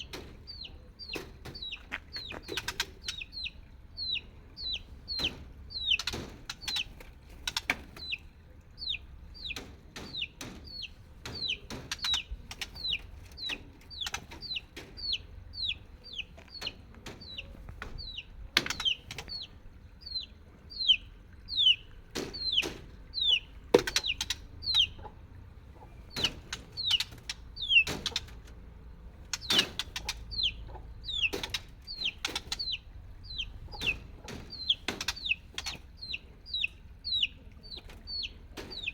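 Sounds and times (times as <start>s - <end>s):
sharp clicks and knocks: 0.0s - 3.5s, 4.9s - 19.6s, 21.2s - 36.3s, 37.7s - 38.9s
chicks peeping: 0.0s - 38.9s.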